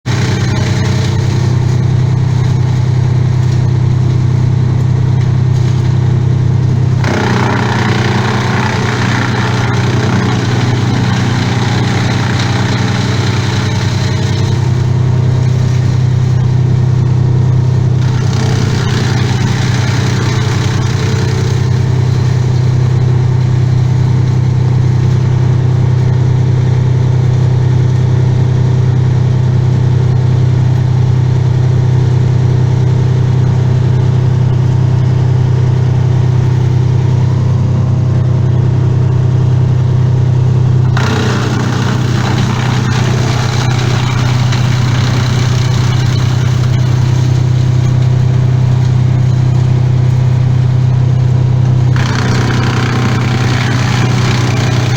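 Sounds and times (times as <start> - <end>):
engine running steadily: 0.0 - 54.9
rough engine noise: 0.0 - 54.9.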